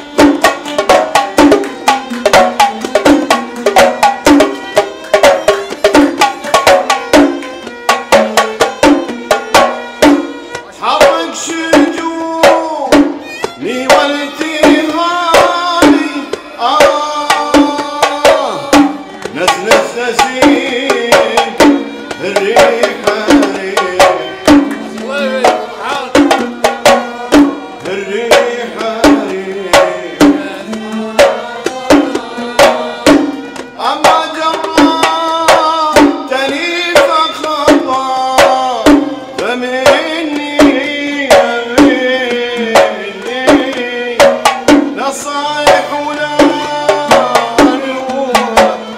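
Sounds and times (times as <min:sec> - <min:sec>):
hand drums beat: 0:00.0 - 0:48.9
oud and violin melody: 0:00.0 - 0:48.9.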